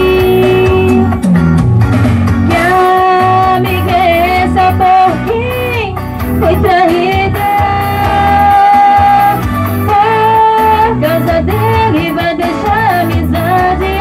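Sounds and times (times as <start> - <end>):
woman singing: 0.0 - 1.1, 2.5 - 14.0
backing music: 0.0 - 14.0.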